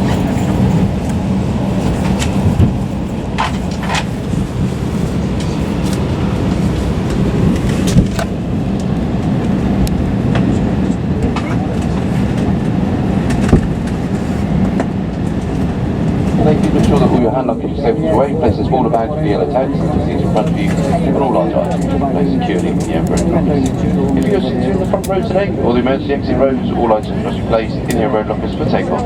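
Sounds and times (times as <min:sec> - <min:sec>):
cabin air conditioning hum: 0:00.0 - 0:29.0.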